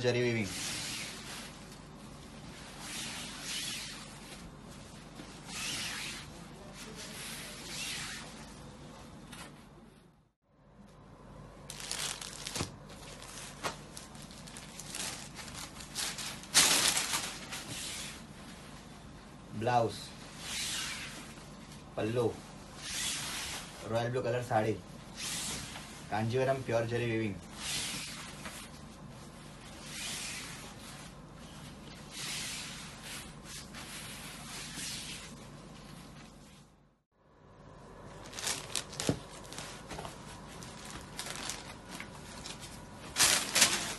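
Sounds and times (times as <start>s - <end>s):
silk fabric rustling and crinkling: 0.1s - 10.0s, 11.7s - 37.0s, 38.0s - 43.9s.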